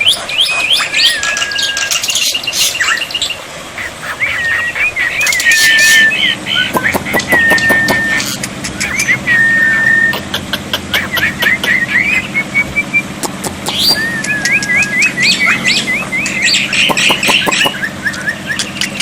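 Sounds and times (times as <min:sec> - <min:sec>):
starling singing: 0:00.0 - 0:19.0.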